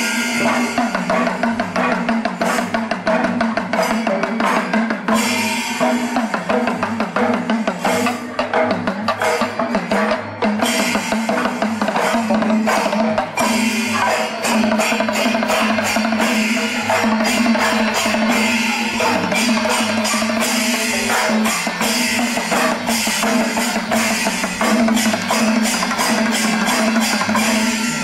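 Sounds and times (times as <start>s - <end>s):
fast drumming and percussion: 0.0s - 28.0s.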